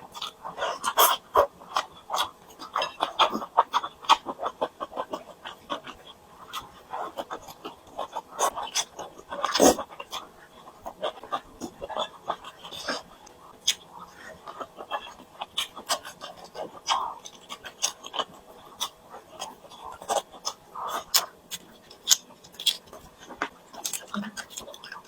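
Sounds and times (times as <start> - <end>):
chewing and smacking food: 0.0 - 25.0.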